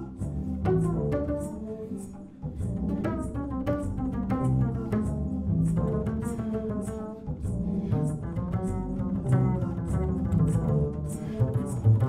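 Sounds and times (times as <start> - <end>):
double bass plucked notes: 0.0 - 12.0.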